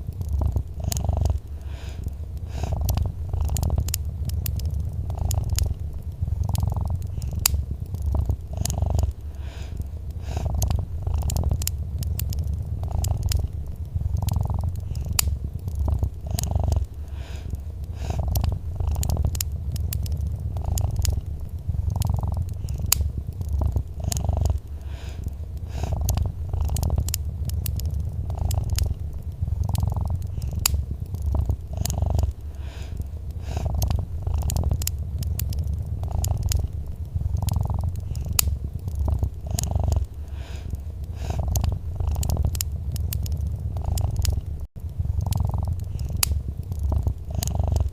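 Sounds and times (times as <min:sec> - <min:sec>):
cat purring: 0:00.0 - 0:47.9
wood fire crackling: 0:00.0 - 0:47.9.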